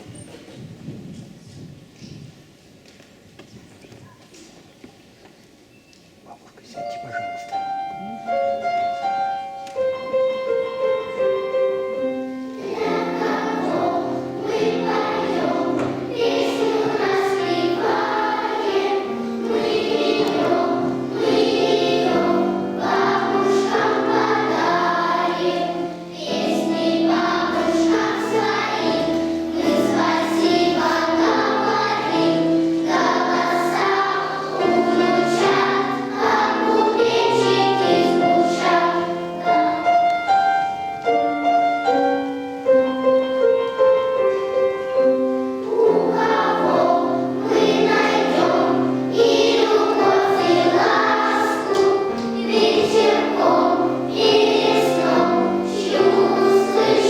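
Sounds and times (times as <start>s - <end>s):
instrumental accompaniment: 6.7s - 57.0s
children's choir singing: 8.3s - 57.0s.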